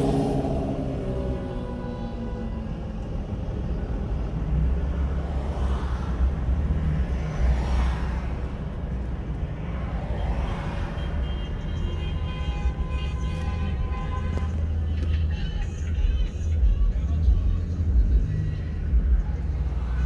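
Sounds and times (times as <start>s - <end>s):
low rumble of engines: 0.0s - 20.0s
vehicles passing: 0.0s - 20.0s.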